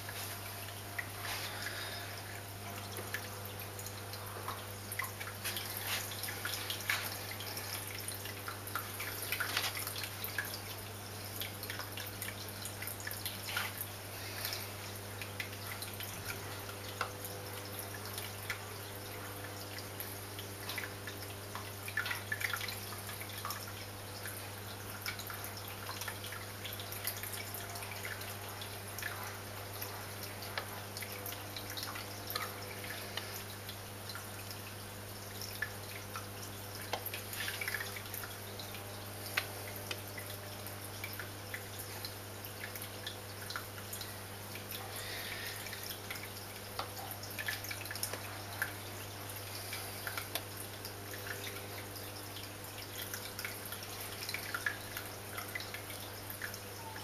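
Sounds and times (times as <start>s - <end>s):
aquarium filter humming: 0.0s - 57.0s
water trickling and dripping: 0.0s - 57.0s.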